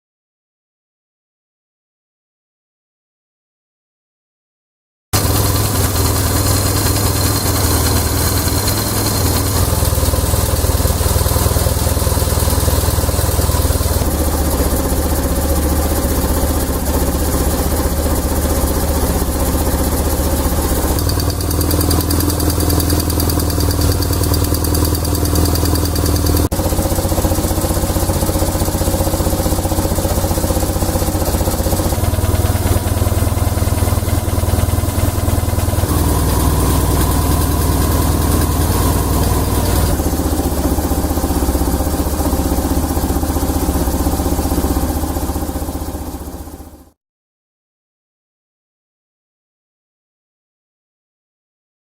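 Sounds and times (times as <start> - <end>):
motorcycle engine idling: 5.2 - 47.0.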